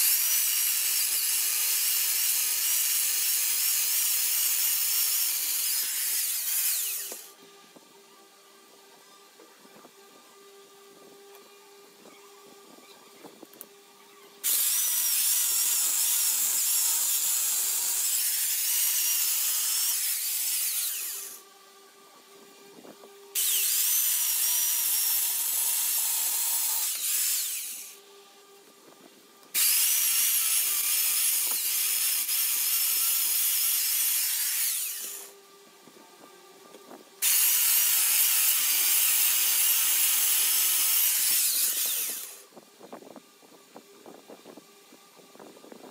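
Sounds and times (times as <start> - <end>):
electric chainsaw cutting wood: 0.0 - 7.9, 8.7 - 36.0, 36.6 - 42.6.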